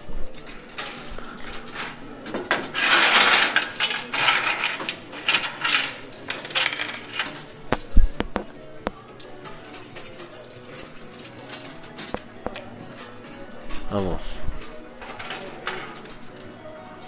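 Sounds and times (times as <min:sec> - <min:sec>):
coins clattering: 0:00.3 - 0:16.5.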